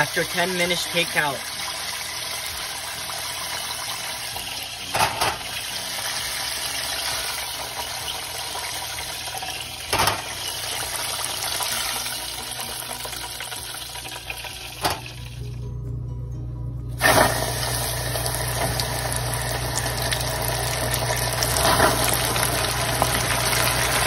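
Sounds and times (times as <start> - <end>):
oil sizzling: 0.0 - 15.6, 17.0 - 24.0.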